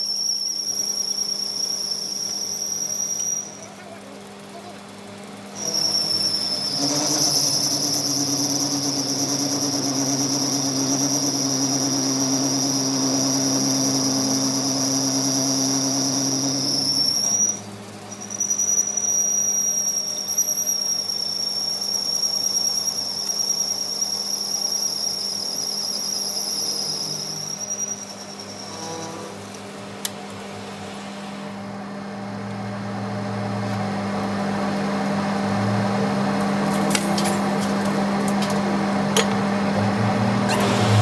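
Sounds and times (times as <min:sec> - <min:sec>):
workshop machine whining: 0:00.0 - 0:41.0.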